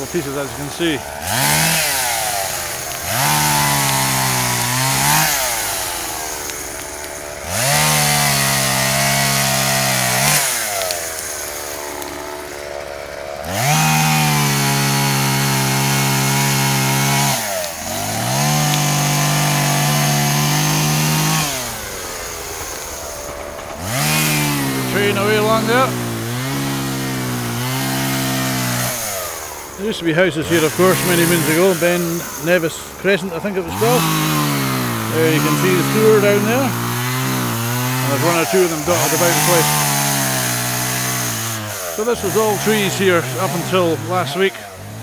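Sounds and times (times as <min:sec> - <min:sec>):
chainsaw cutting wood: 0:00.0 - 0:45.0.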